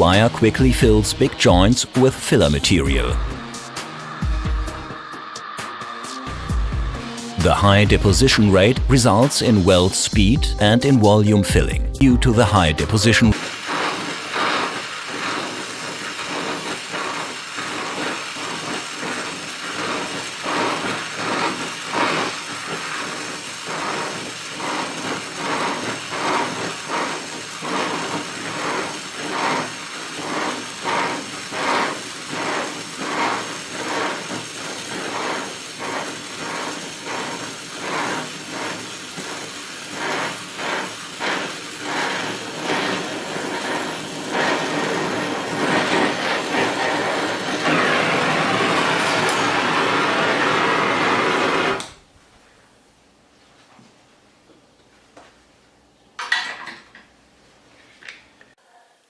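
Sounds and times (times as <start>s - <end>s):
welding arc hissing and crackling: 0.0s - 10.4s, 12.3s - 52.1s.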